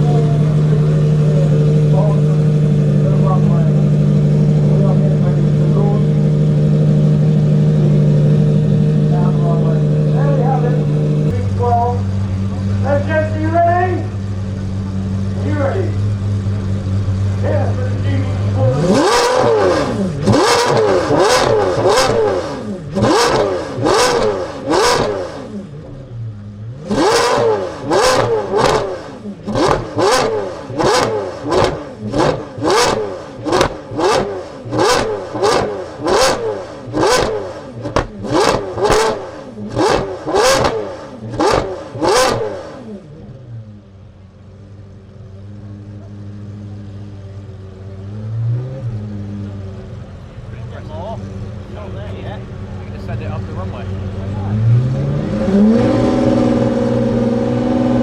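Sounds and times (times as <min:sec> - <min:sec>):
car engine idling: 0:00.0 - 0:58.0
car engine revving: 0:00.0 - 0:58.0.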